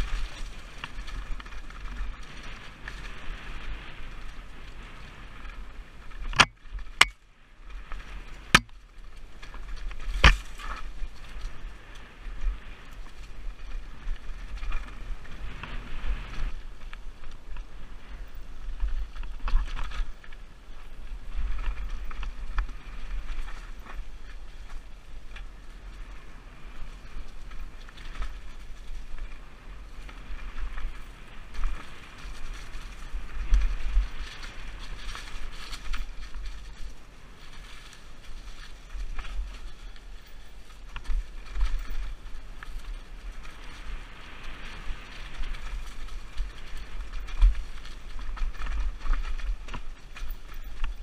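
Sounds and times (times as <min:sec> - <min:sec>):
bike rattling and knocking: 0:00.0 - 0:04.6, 0:05.3 - 0:26.0, 0:26.8 - 0:51.0
bike tyres crunching on stones: 0:00.0 - 0:51.0
wind buffeting microphone: 0:00.0 - 0:51.0.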